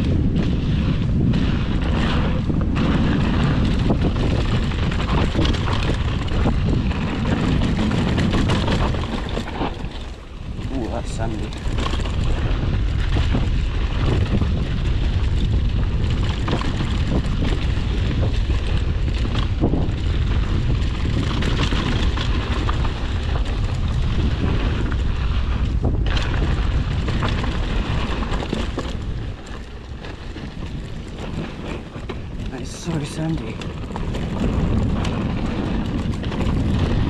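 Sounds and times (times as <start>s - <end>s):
bike knocking and rattling: 0.0s - 37.0s
tyres on loose dirt: 0.0s - 37.0s
wind rumble on microphone: 0.0s - 37.0s.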